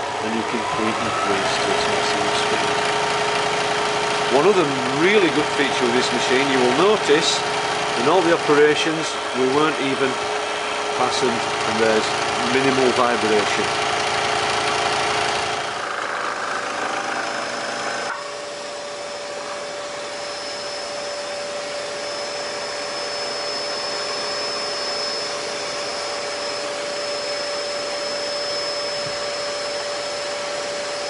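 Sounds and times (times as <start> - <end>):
scroll saw motor whirring: 0.0 - 31.0.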